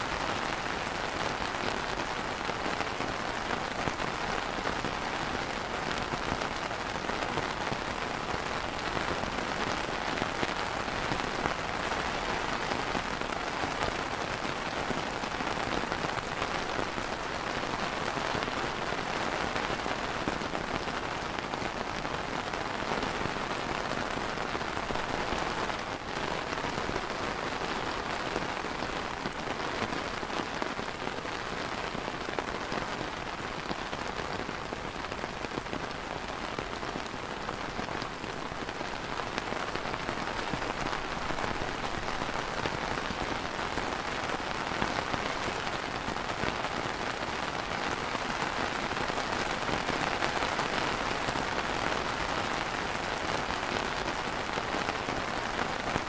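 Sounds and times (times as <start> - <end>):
rain on an umbrella: 0.0 - 56.0.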